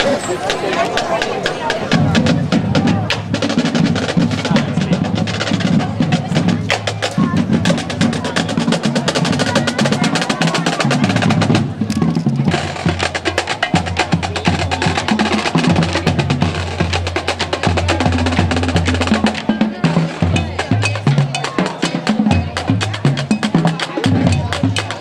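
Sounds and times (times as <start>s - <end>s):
bass drums: 1.6s - 25.0s.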